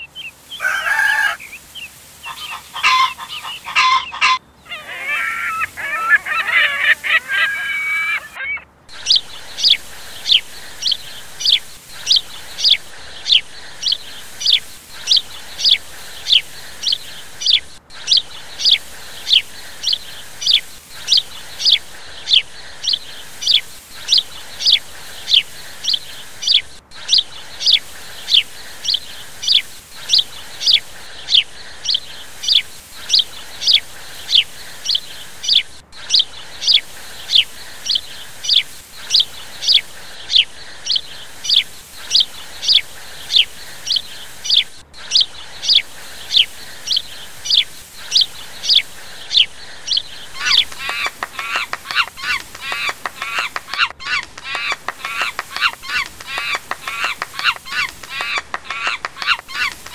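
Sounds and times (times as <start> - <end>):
small bird chirping: 1.3 - 59.9.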